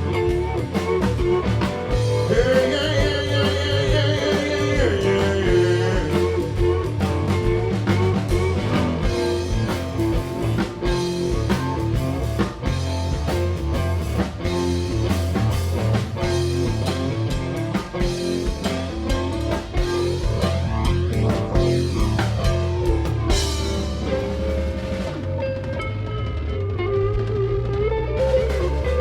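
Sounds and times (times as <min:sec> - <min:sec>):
bass guitar: 0:00.0 - 0:29.0
drum kit: 0:00.0 - 0:29.0
electric guitar riffing: 0:00.0 - 0:29.0.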